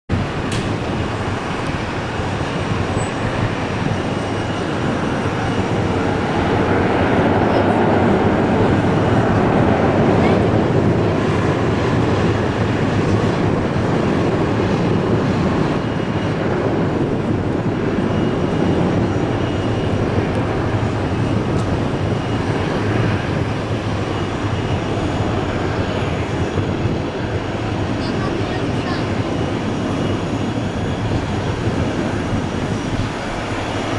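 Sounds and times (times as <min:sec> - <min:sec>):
faint high engine whine: 0:00.1 - 0:33.9
jet engines rumbling roar: 0:00.1 - 0:33.9.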